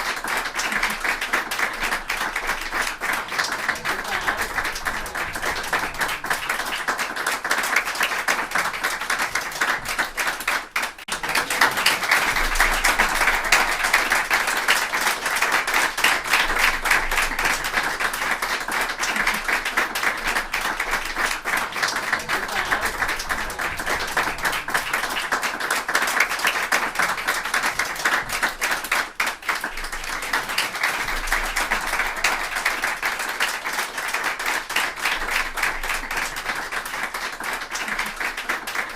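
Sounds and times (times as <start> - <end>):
crowd applauding: 0.0 - 38.9.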